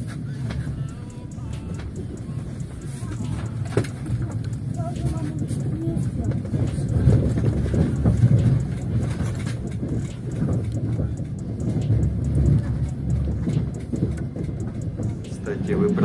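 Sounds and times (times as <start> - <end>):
train rumbling and rattling: 0.0 - 16.0.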